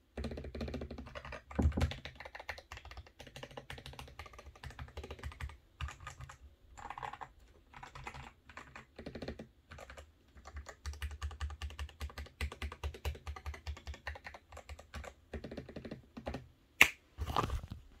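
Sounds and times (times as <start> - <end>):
mechanical keyboard typing: 0.1 - 16.4.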